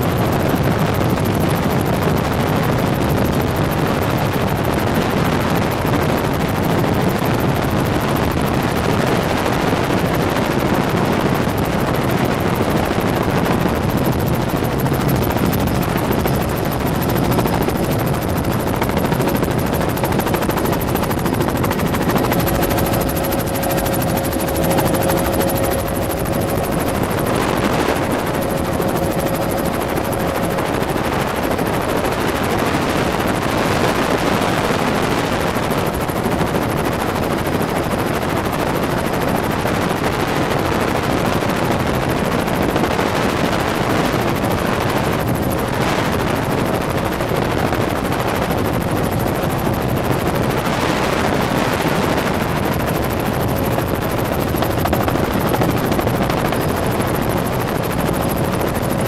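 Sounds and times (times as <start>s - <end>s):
faint steady whine: 0.0s - 59.0s
helicopter rotor and engine: 0.0s - 59.0s.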